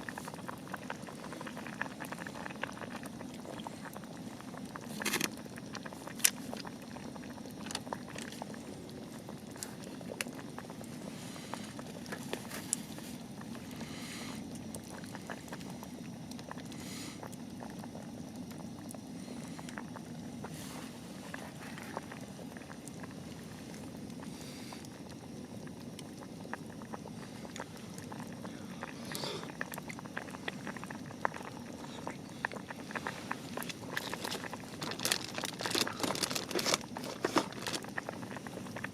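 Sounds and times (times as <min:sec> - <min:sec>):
broth bubbling in a pot: 0:00.0 - 0:38.9.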